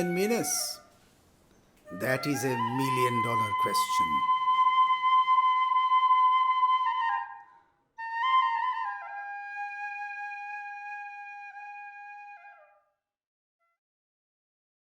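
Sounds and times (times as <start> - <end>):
solo flute music: 0.0 - 0.9, 1.8 - 13.0.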